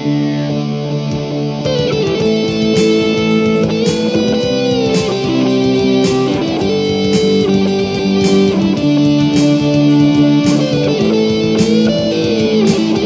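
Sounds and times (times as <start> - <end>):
instrumental song music with beat: 0.1 - 13.0.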